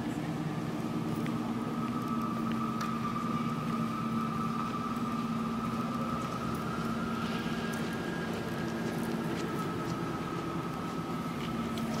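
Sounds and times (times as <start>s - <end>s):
low hum drone: 0.0s - 12.0s.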